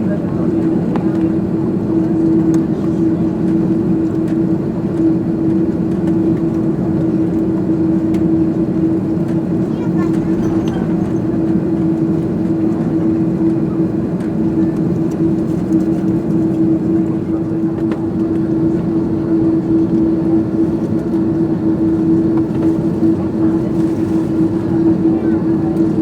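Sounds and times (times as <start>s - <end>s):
airplane engines idling: 0.0s - 26.0s.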